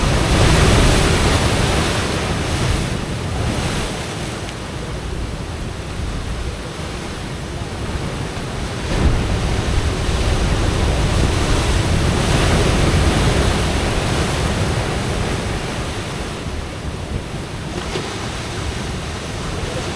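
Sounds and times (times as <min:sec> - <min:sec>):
waves breaking on rocks: 0:00.0 - 0:19.9.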